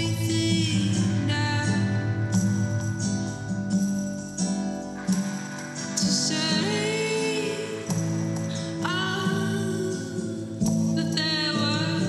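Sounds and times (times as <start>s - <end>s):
sustained instrumental backing: 0.9s - 11.3s.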